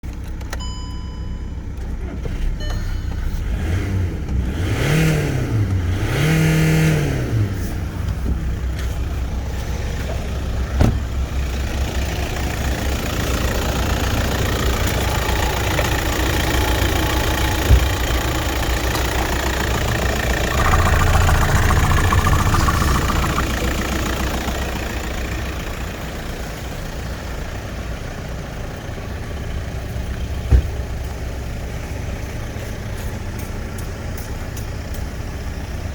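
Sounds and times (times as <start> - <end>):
diesel engine idling and revving: 0.1 - 35.9.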